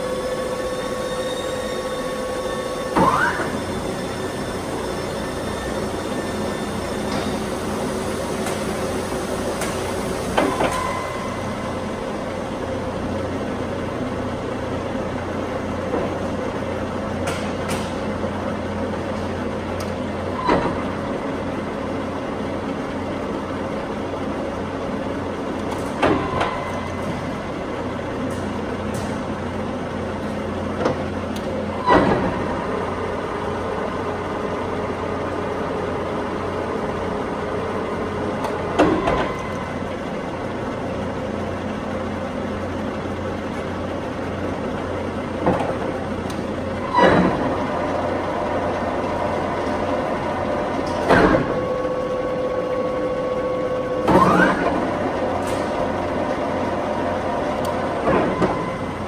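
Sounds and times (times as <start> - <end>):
lathe motor and gears humming: 0.0 - 59.0.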